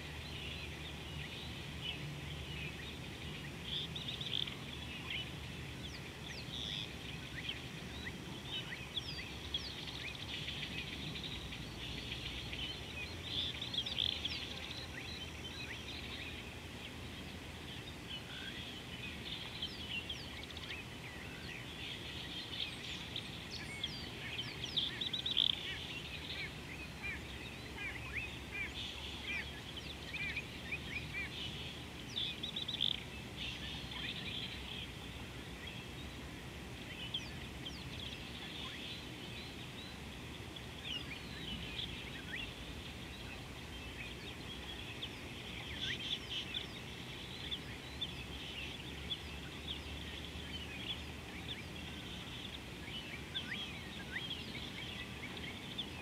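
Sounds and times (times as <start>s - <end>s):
low background noise: 0.0s - 56.0s
wild birds chirping: 0.0s - 56.0s.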